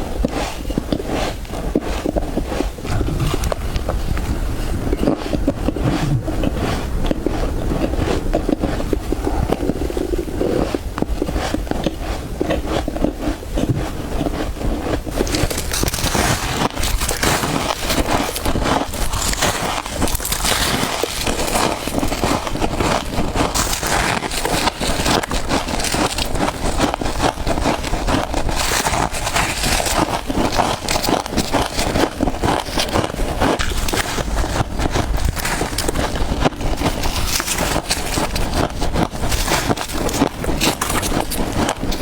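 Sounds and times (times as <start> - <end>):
frost being chewed and crunched: 0.0 - 42.0.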